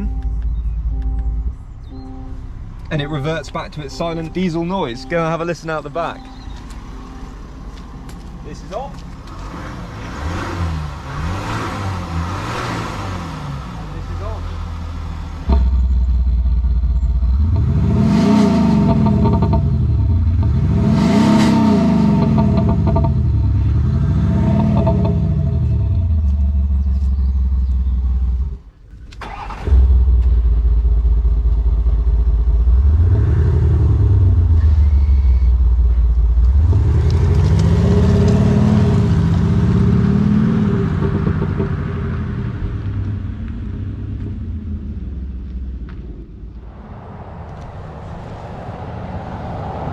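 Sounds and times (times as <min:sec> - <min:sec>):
diesel engine revving: 0:00.0 - 0:28.6, 0:29.2 - 0:49.9.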